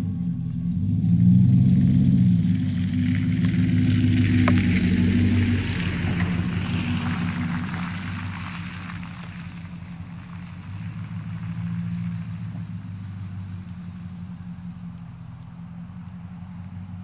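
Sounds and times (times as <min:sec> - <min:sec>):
truck engine drone: 0:00.0 - 0:17.0
tyre hiss on wet road: 0:02.5 - 0:16.5.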